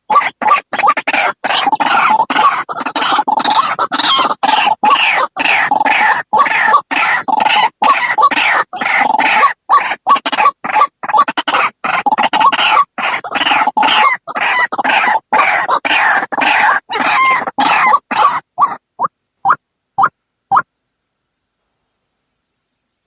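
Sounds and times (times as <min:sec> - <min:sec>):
bird harsh repeated calls: 0:00.1 - 0:20.7.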